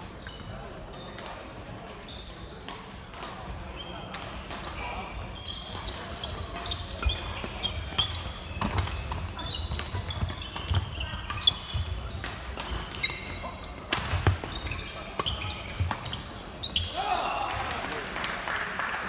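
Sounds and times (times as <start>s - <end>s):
chatter of players in hall: 0.0s - 19.0s
shoes squeaking on court: 0.2s - 1.4s, 2.0s - 17.0s.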